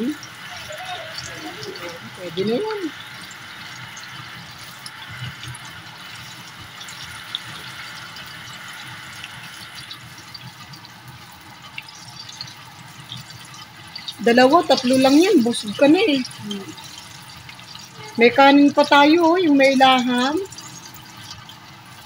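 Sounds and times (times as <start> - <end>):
oil sizzling with pops: 0.0 - 22.0.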